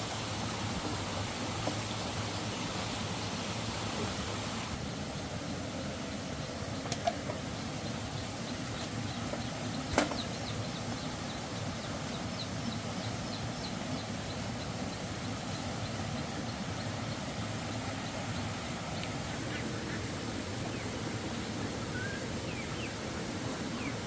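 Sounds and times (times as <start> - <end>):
birds chirping: 0.6 - 24.0.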